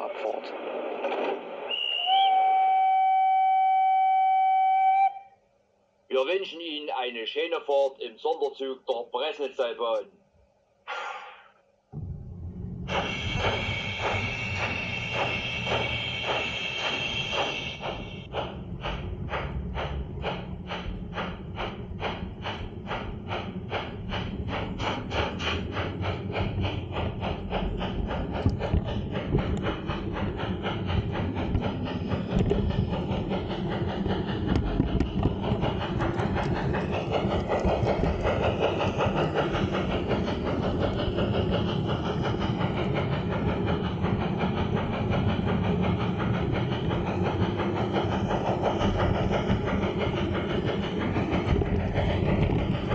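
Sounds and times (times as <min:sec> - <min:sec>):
model steam locomotive chuffing: 0:00.0 - 0:05.1, 0:06.1 - 0:10.0, 0:12.7 - 0:52.9
model train running on track: 0:00.0 - 0:05.3, 0:06.1 - 0:10.0, 0:12.8 - 0:52.9.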